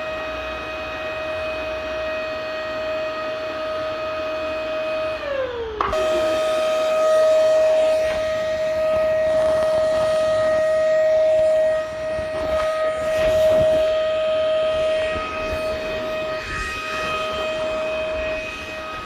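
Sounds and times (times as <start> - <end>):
vacuum cleaner motor whining: 0.0 - 19.0.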